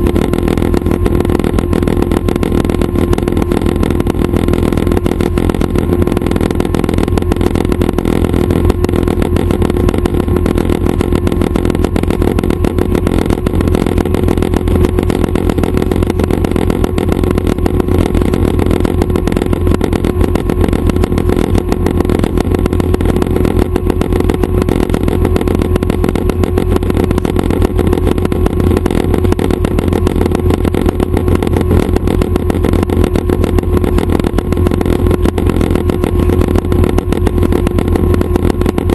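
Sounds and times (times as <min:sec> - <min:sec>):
helicopter engine and rotors: 0:00.0 - 0:38.9.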